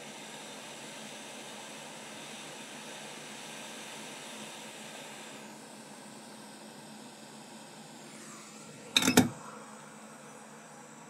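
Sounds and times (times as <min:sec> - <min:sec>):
hot air station hissing: 0:00.0 - 0:11.0.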